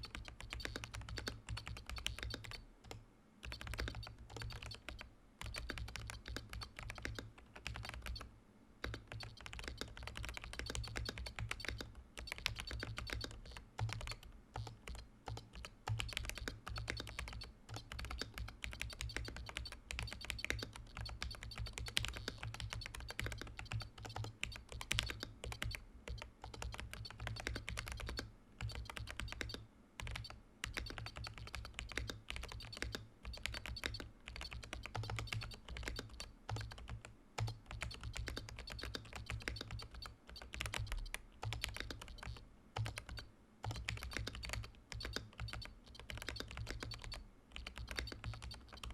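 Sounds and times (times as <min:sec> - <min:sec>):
mechanical keyboard typing: 0:00.0 - 0:48.9.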